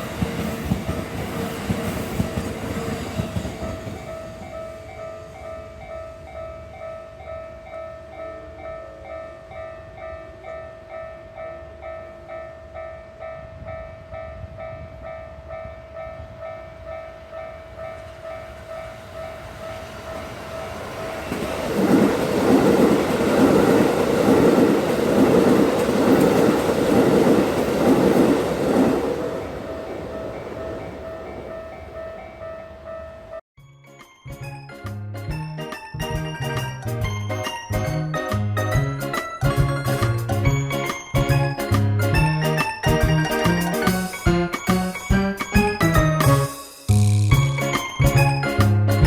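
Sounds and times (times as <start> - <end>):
railroad crossing warning bell: 2.2 - 28.4, 29.6 - 49.0.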